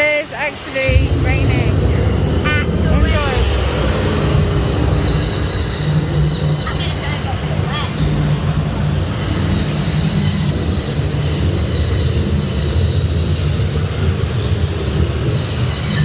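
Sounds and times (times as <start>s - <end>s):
water falling from overhead: 0.0s - 16.0s.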